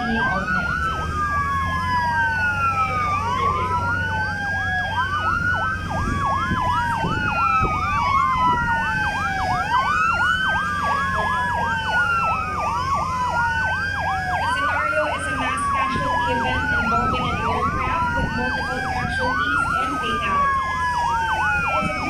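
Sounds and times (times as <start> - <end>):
emergency siren wailing: 0.0 - 22.0
siren fast yelp: 0.0 - 22.0.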